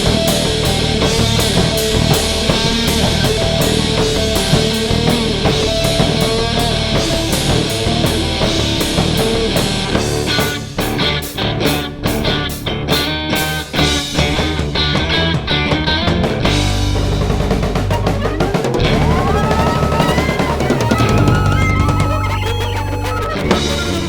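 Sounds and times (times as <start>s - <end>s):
rock band playing: 0.0s - 24.0s.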